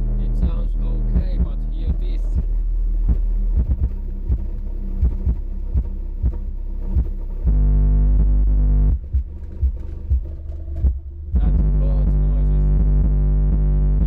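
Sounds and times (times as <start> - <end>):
bass-heavy music: 0.0 - 14.0
sharp bass thumps: 0.0 - 14.0.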